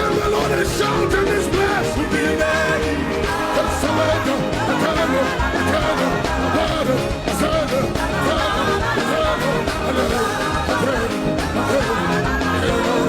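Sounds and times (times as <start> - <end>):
band playing gospel music: 0.0 - 13.0
people singing: 0.0 - 13.0.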